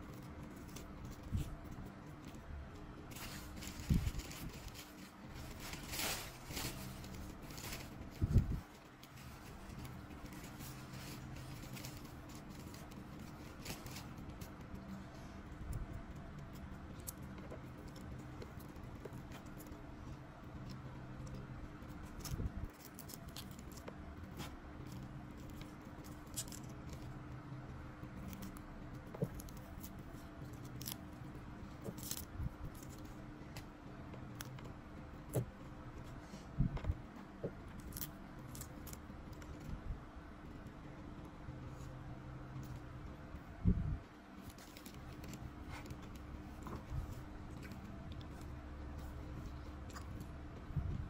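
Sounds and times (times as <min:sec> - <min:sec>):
fingers peeling leaf wrapping: 0:00.0 - 0:43.6, 0:44.4 - 0:51.0
faint rustling with small clicks: 0:00.0 - 0:51.0
low steady hum: 0:00.0 - 0:51.0.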